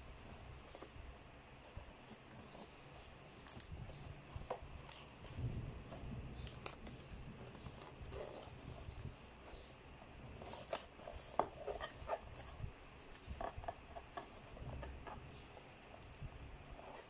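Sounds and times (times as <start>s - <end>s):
cardboard flaps rustling and scraping: 1.9s - 17.0s.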